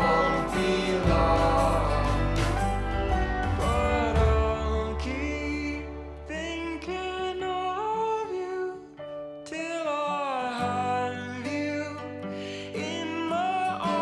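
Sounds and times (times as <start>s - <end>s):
song with singing and bass: 0.0s - 14.0s.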